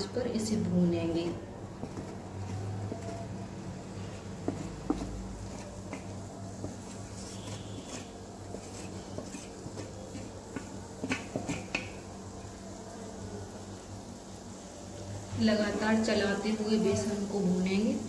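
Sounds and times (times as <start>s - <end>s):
faint sizzle of ghee: 0.0s - 18.0s.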